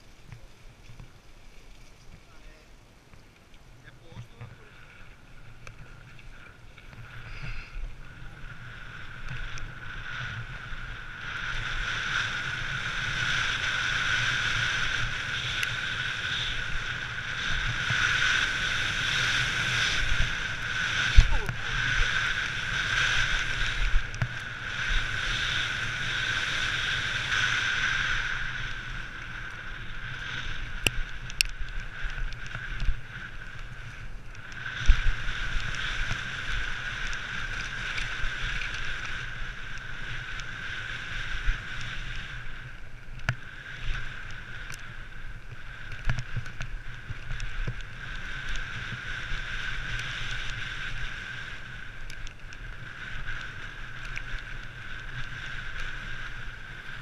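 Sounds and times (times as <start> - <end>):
wind rumble on microphone: 0.0 - 57.0
freewheeling bike hub buzz: 5.1 - 57.0.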